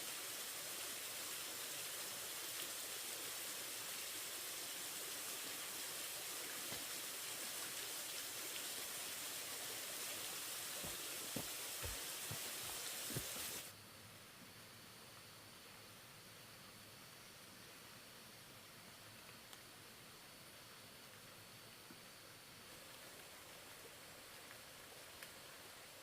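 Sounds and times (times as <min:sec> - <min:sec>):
steady rain: 0:00.0 - 0:13.7, 0:15.2 - 0:26.0
faint hiss: 0:00.0 - 0:26.0.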